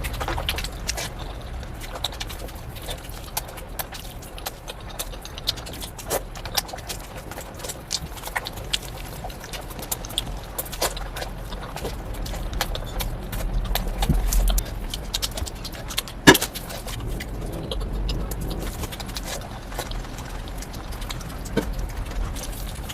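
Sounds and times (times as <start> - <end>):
wet chewing and lip smacking: 0.0 - 22.9.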